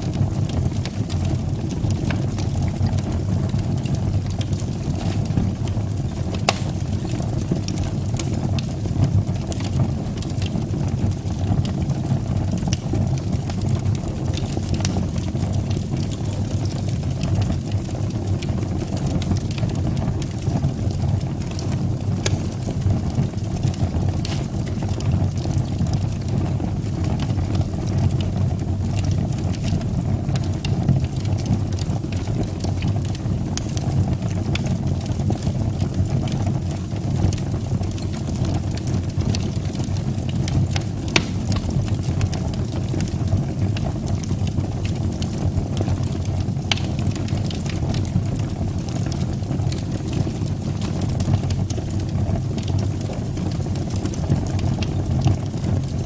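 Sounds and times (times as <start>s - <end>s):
fire crackles and pops: 0.0s - 56.0s
fire rumbling in fireplace: 0.0s - 56.0s.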